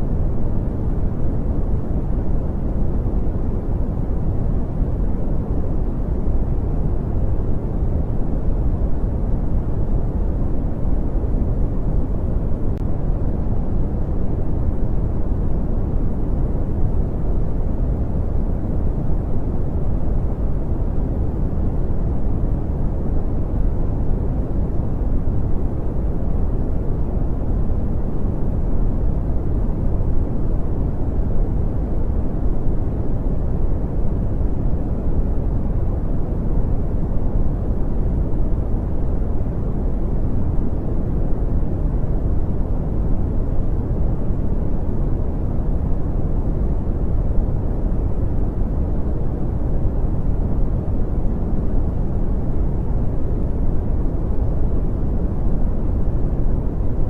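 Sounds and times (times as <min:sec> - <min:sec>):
brown noise rumbling hiss: 0:00.0 - 0:57.0.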